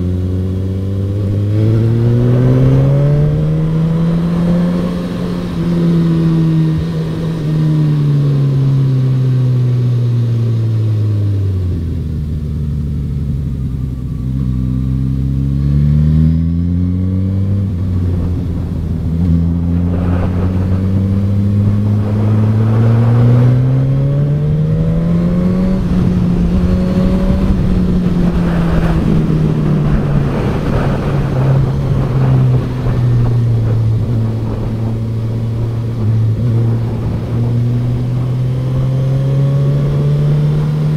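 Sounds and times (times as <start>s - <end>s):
wind rushing over microphone: 0.0s - 12.4s, 14.7s - 40.9s
motorcycle engine revving: 0.0s - 40.9s.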